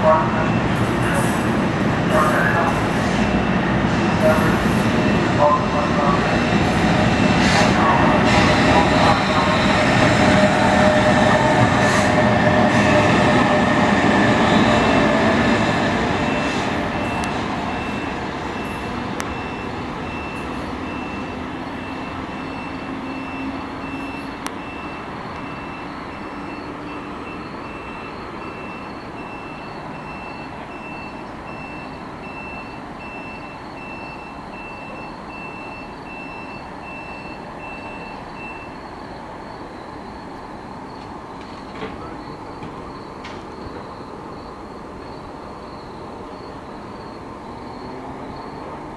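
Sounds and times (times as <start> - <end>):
train running past: 0.0 - 48.9.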